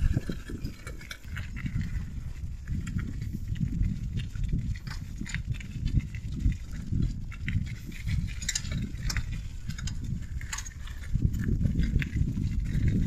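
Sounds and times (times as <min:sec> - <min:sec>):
bicycle clicks and rattles: 0:00.0 - 0:13.0
wind buffeting microphone: 0:00.0 - 0:13.0.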